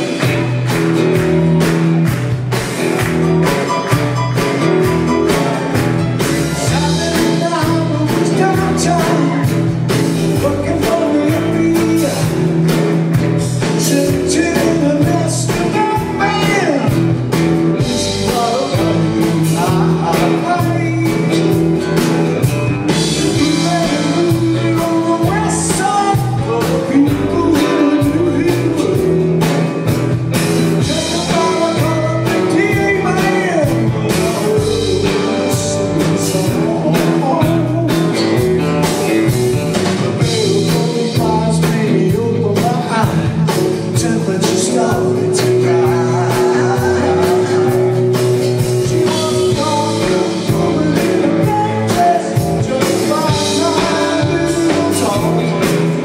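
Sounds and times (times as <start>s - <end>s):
live rock band playing: 0.0s - 56.0s
man singing lead: 3.7s - 56.0s.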